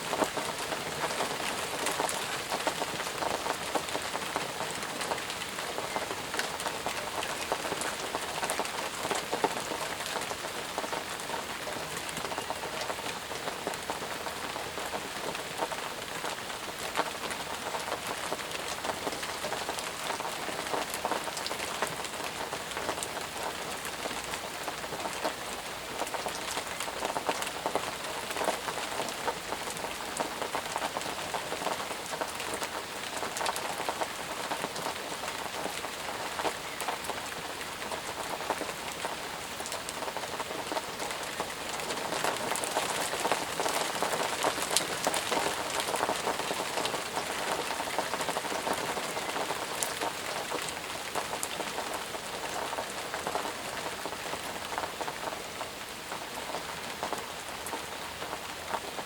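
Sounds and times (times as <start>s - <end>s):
heavy rain: 0.0s - 59.0s
raindrops striking close by: 0.0s - 59.0s.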